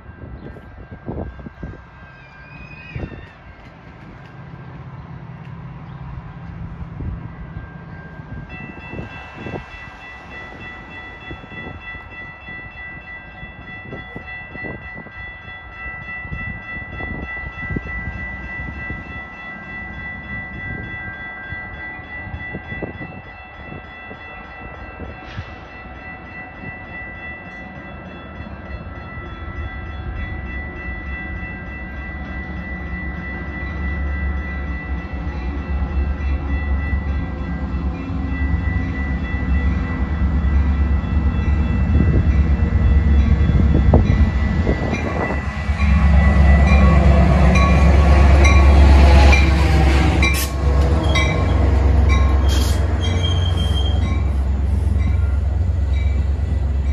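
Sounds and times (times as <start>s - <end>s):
diesel locomotive engine rumble: 0.0s - 56.9s.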